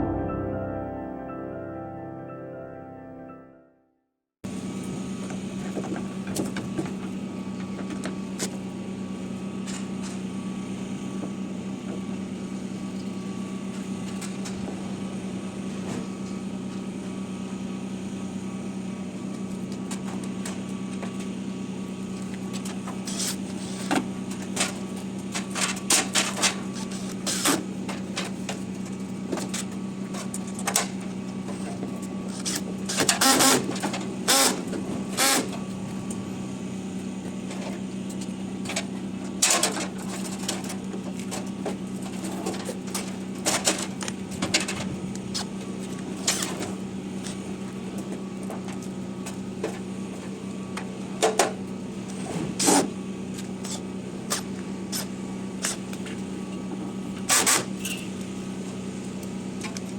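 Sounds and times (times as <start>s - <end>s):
steady mechanical hum: 4.5s - 59.9s.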